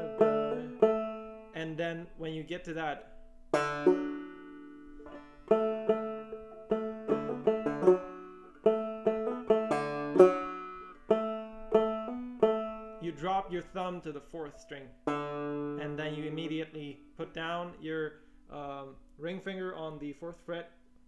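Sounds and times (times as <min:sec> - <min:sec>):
banjo plucking and strumming: 0:00.0 - 0:18.0.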